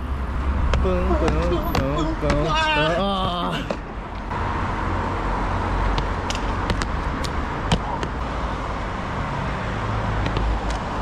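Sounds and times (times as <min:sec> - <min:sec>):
cars passing on street: 0:00.0 - 0:11.0.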